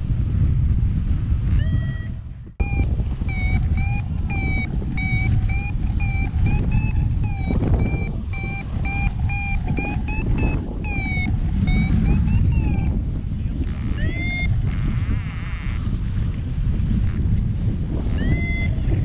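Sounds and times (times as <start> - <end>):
wind on microphone: 0.0 - 19.0
variometer beeping: 1.5 - 16.0, 18.0 - 19.0.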